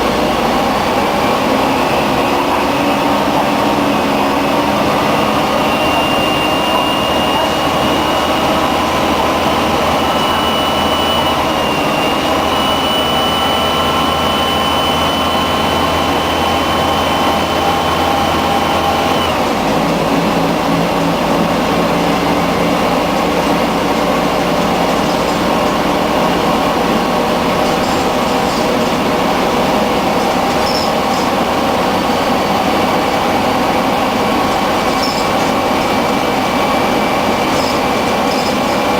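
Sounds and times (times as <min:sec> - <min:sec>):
bus diesel engine running: 0:00.0 - 0:38.9
high driveline whine: 0:00.0 - 0:38.9.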